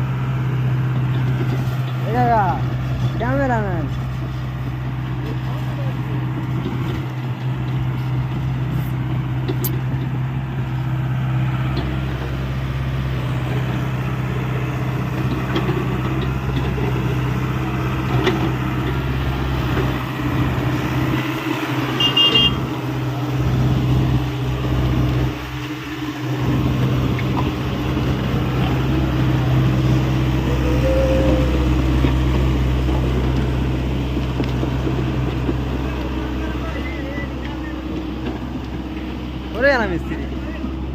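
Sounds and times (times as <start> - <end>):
excavator diesel engine rumble: 0.0 - 40.9.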